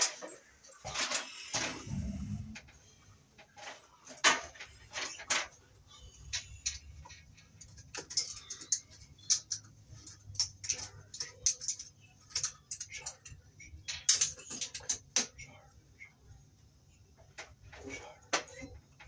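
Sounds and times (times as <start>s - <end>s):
light clicks taps and scrapes: 0.0s - 16.2s, 16.9s - 19.0s.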